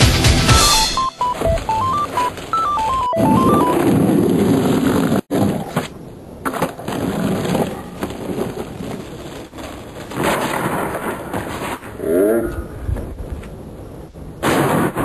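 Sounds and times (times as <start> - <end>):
skateboard wheels rolling on pavement: 1.3 - 15.0.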